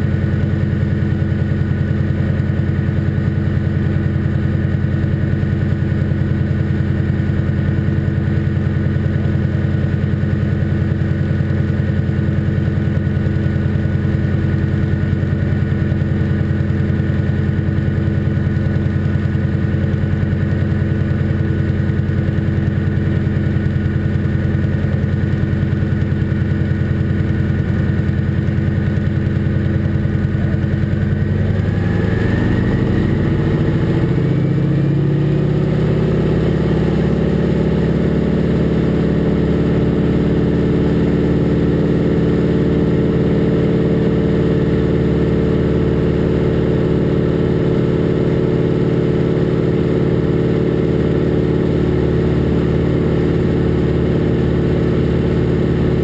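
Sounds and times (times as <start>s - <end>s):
radial aircraft engine and propeller: 0.0s - 56.0s.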